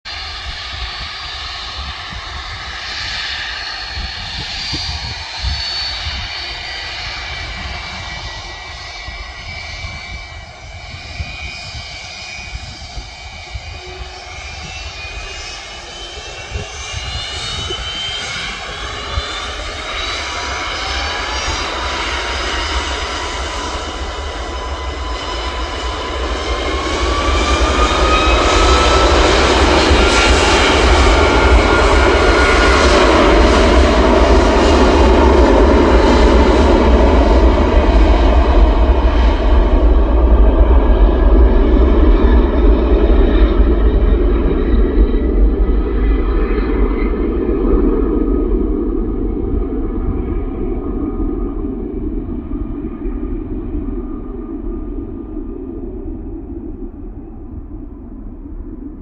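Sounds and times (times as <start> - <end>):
jet engines whining: 0.1 - 59.0.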